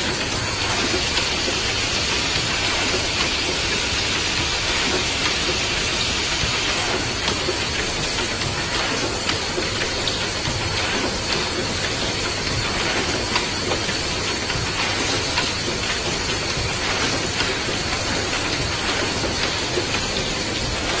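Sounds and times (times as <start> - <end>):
filling machine hiss and whine: 0.0 - 21.0.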